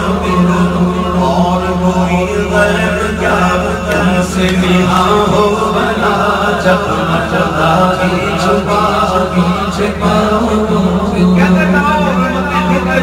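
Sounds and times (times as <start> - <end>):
low hum: 0.0 - 13.0
man chanting devotional song: 0.0 - 13.0.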